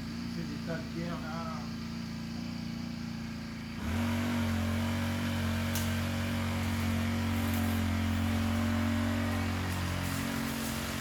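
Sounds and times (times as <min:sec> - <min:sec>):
brush cutter engine running: 0:00.0 - 0:11.0.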